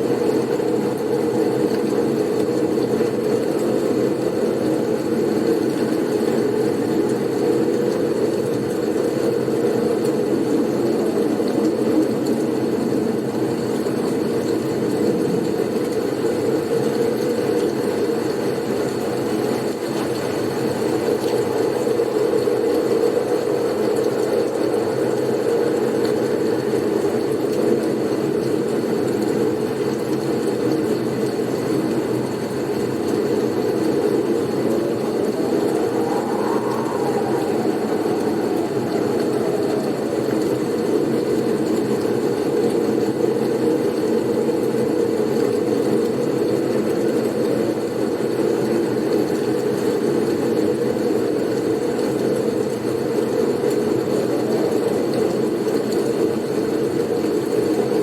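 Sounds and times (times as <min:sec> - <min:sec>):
blizzard wind rush: 0:00.0 - 0:30.2, 0:31.0 - 0:45.5, 0:48.8 - 0:58.0.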